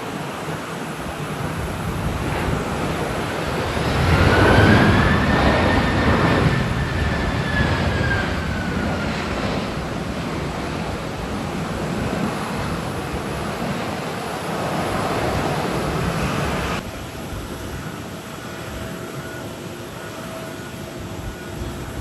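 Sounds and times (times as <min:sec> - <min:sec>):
distant jet noise: 0:00.0 - 0:22.0
faint steady whine: 0:00.0 - 0:22.0
jet engine noise: 0:00.0 - 0:22.0
wind rush: 0:00.0 - 0:22.0.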